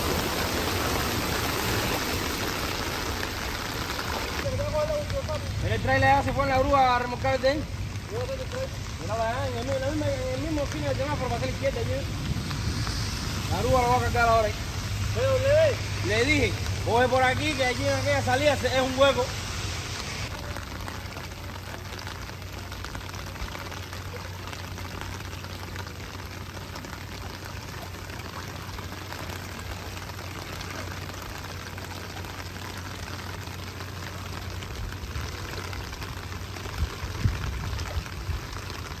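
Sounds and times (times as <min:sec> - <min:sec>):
rain falling on water: 0:00.0 - 0:39.0.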